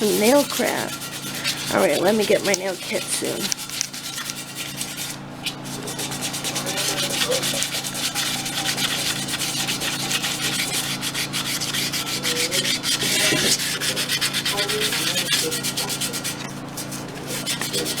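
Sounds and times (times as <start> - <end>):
sandpaper scraping metal rim: 0.0 - 18.0.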